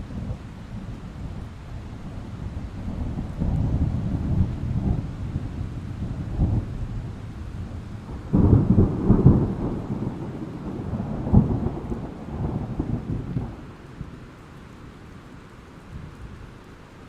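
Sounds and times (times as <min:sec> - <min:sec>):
thunder rumbling: 0:00.0 - 0:14.4
rain hissing: 0:00.0 - 0:17.0.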